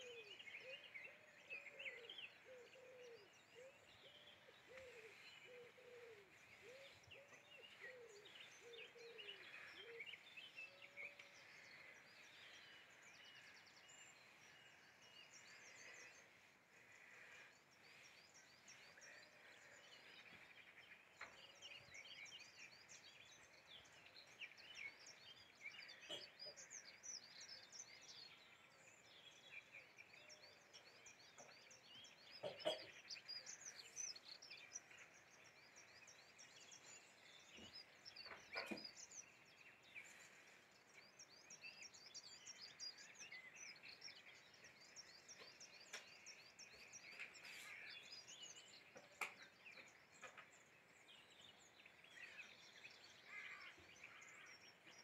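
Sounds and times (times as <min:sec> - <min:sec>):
small birds chirping: 0:00.0 - 0:55.0
soft outdoor background noise: 0:00.0 - 0:55.0.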